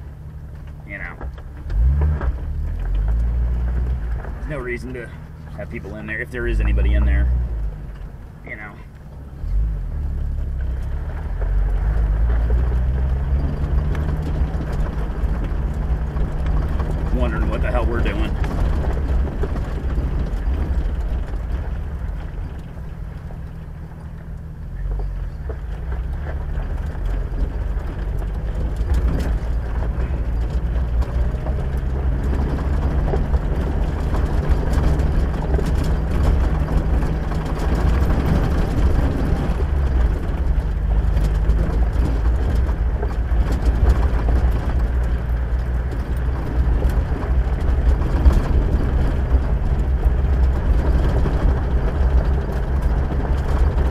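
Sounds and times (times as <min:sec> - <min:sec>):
tyre and road rumble: 0:00.0 - 0:53.9
vehicle engine hum: 0:00.0 - 0:53.9.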